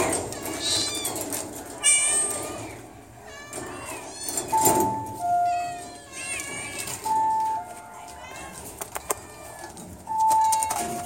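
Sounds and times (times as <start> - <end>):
cats meowing loudly: 0.0 - 11.0.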